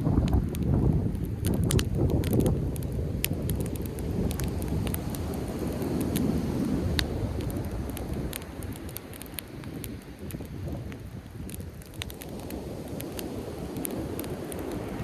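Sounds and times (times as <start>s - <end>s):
campfire crackling and popping: 0.0s - 15.0s
wind: 0.0s - 15.0s.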